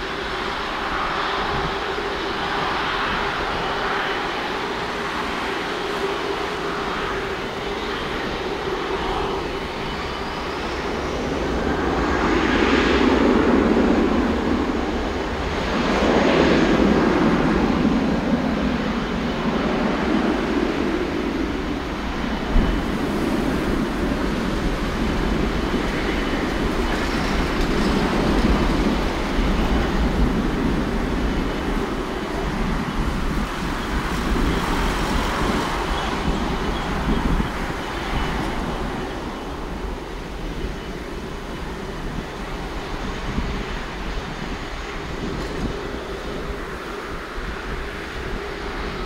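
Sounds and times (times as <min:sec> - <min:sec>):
high engine whine: 0:00.0 - 0:49.0
jet engines roaring: 0:00.0 - 0:49.0.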